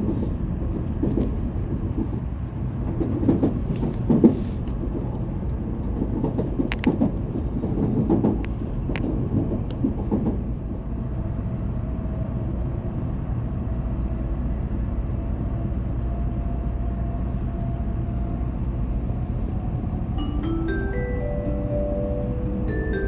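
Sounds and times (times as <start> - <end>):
train rumble inside cabin: 0.0 - 23.0.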